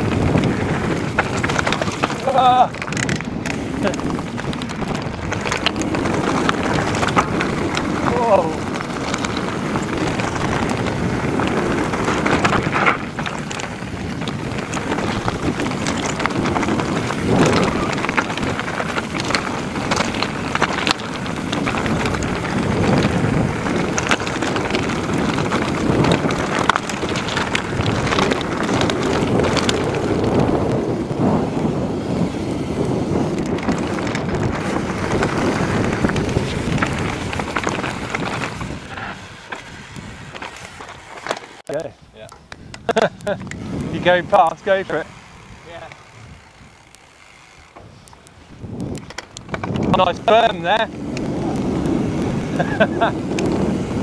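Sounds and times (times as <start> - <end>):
bike rattles and knocks: 0.0 - 54.0
tyres crunching over stones: 0.0 - 54.0
wind buffeting microphone: 0.0 - 54.0.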